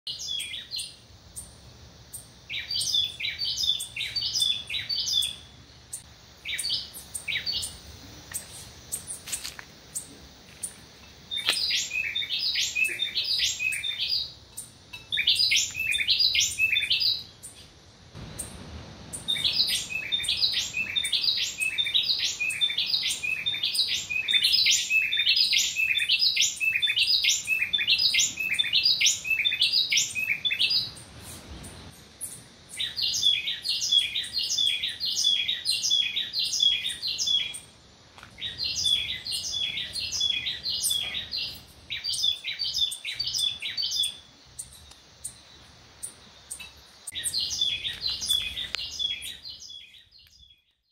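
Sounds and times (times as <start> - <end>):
birds chirping: 0.1 - 50.9.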